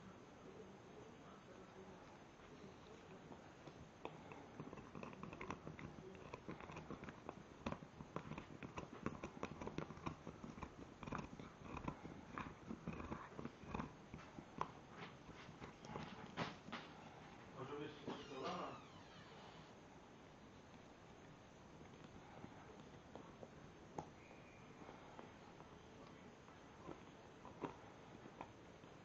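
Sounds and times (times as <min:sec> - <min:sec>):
puppy teeth gnawing antler: 0:02.0 - 0:17.6, 0:20.8 - 0:29.0.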